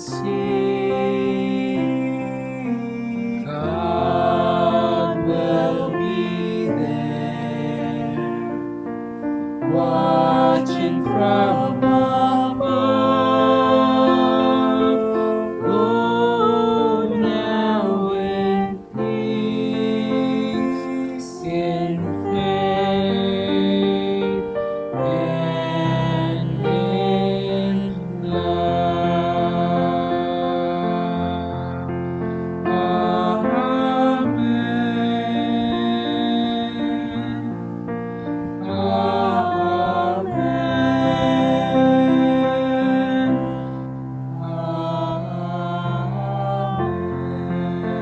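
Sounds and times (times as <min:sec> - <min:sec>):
slow sacred music with choir: 0:00.0 - 0:48.0.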